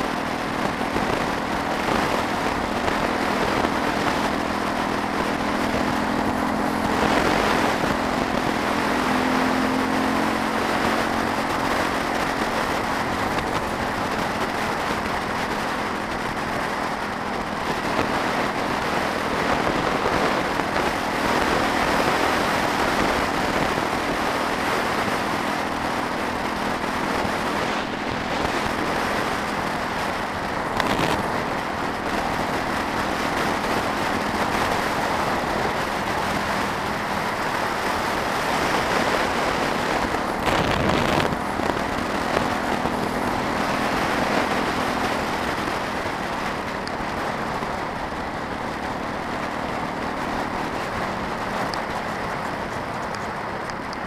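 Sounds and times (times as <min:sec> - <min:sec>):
motorcycle engine running steadily: 0:00.0 - 0:54.0
wind rush over camera: 0:00.0 - 0:54.0.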